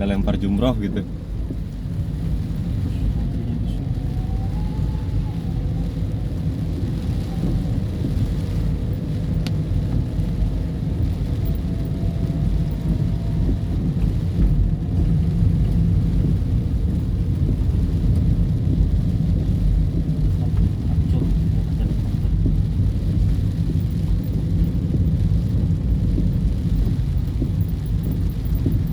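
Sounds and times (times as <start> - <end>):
continuous deep rumble: 0.0 - 28.9
heavy rain on vehicle roof: 0.0 - 28.9.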